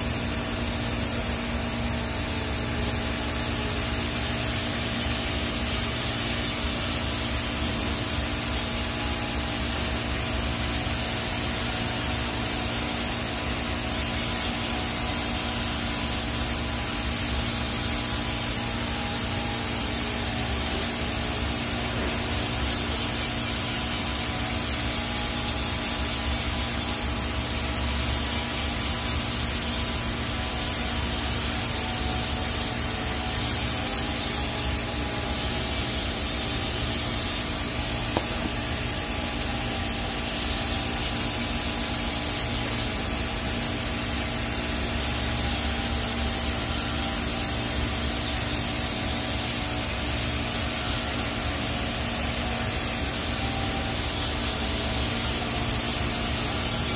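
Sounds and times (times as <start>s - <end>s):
steady hum: 0.0s - 56.9s
welding arc hissing: 0.0s - 56.9s.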